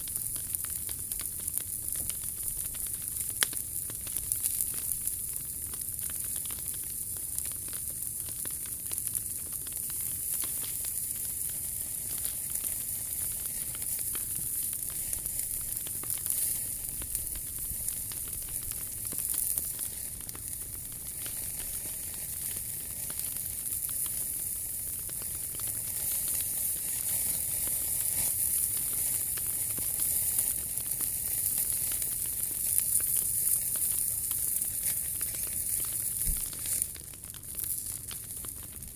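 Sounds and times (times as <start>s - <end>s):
fire crackles: 0.0s - 38.9s
wood fire hissing: 0.0s - 38.9s.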